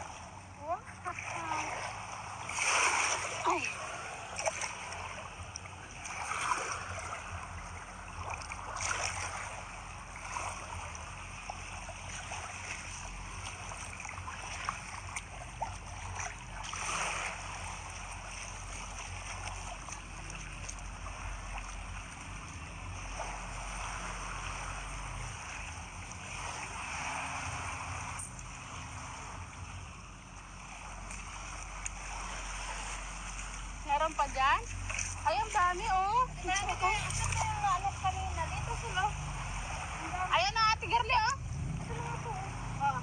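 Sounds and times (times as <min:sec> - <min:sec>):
seawater sloshing and splashing: 0:00.0 - 0:43.0
steady low rumble: 0:00.0 - 0:43.0.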